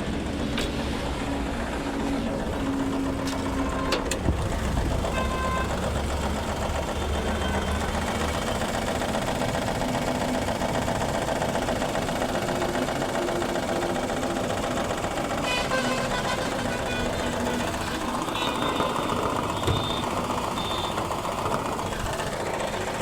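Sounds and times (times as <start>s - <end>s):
car engine running rough: 0.0s - 23.0s.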